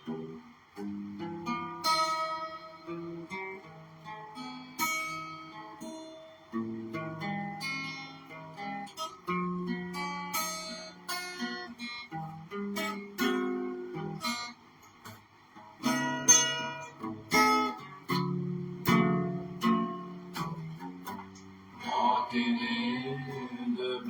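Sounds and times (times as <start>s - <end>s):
guitar plucking and strumming: 0.0s - 24.0s.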